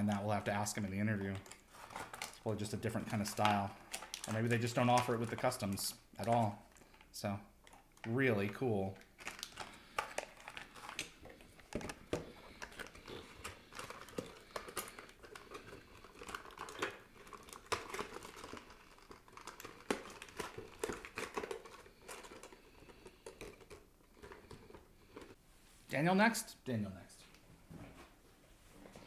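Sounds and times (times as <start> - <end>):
plastic bag crinkling: 0.0 - 25.4.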